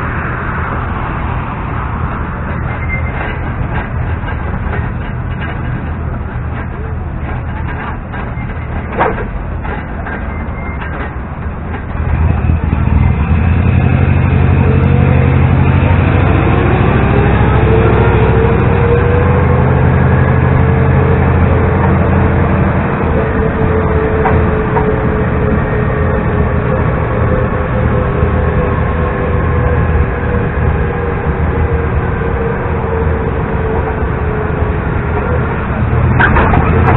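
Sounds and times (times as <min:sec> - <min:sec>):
bus engine running under load: 0:00.0 - 0:36.9
rising drivetrain whine: 0:00.0 - 0:36.9.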